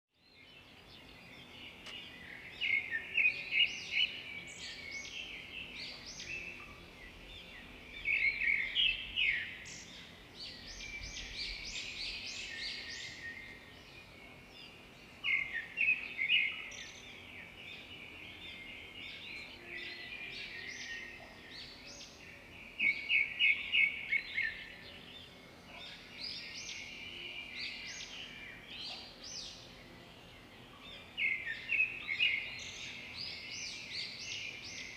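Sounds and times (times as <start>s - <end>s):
birds chirping and calling: 0.4s - 34.9s.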